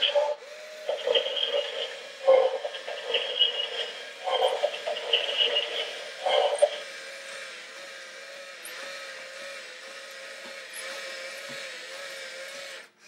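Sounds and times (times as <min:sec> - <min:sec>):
toy robot motor whirring: 0:00.0 - 0:13.0.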